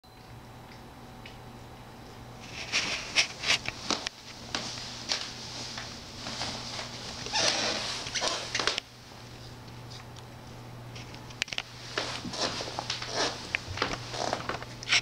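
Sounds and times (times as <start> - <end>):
faint low hum: 0.1 - 15.0.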